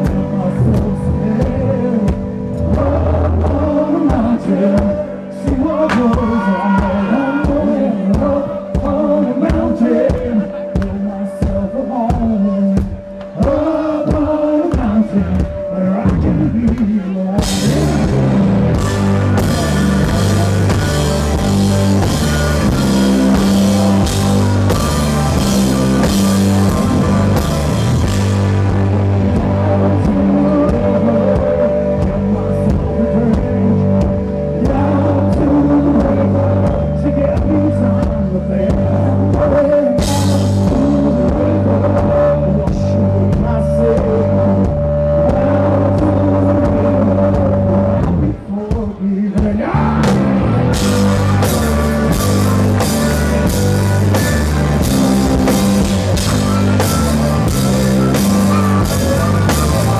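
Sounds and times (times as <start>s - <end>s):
blues rock band playing live: 0.0s - 59.9s
drum kit: 0.0s - 59.9s
electric guitar: 0.0s - 59.9s.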